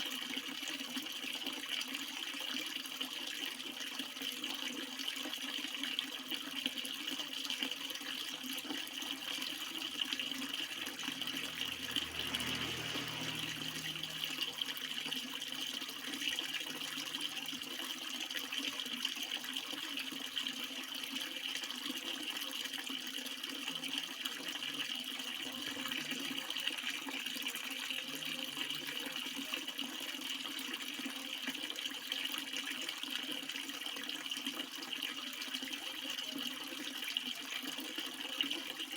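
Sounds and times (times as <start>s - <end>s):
water flowing: 4.9s - 38.9s.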